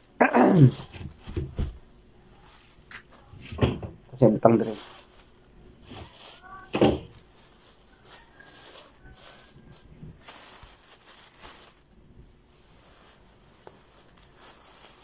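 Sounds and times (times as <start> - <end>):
plastic bags rustling: 0.0 - 15.0
powder shifting in bag: 0.4 - 3.3, 4.5 - 15.0.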